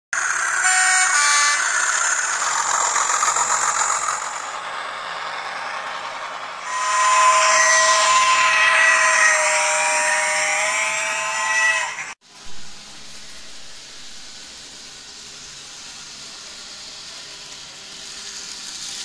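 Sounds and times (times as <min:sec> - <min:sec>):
model train motors whining: 0:00.2 - 0:19.0
wheels hissing on rail: 0:00.2 - 0:19.0.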